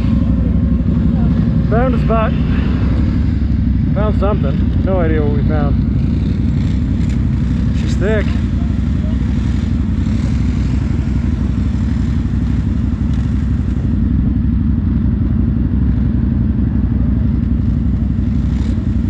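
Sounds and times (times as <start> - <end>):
quad engine running: 0.0 - 19.0.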